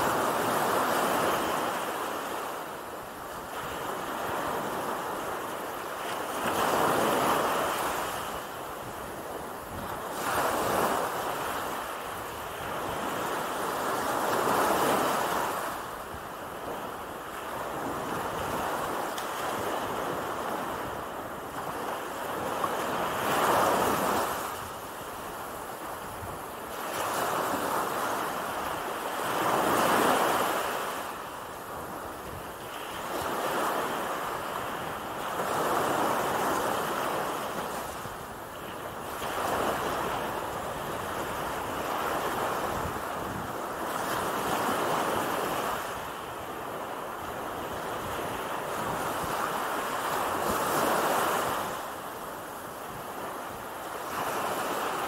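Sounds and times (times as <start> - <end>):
small waves breaking on sand: 0.0 - 55.0.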